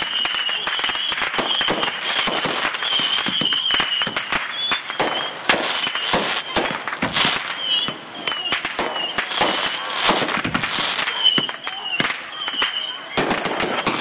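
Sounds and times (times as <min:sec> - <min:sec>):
fireworks popping and crackling: 0:00.0 - 0:14.0
high firework whistle: 0:00.0 - 0:14.0.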